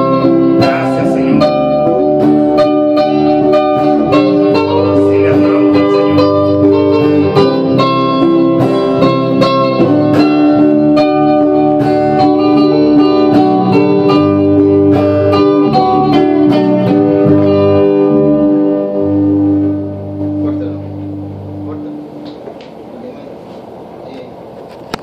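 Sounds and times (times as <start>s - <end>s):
plucked guitar notes: 0.0s - 22.6s
held lower notes: 0.0s - 23.3s.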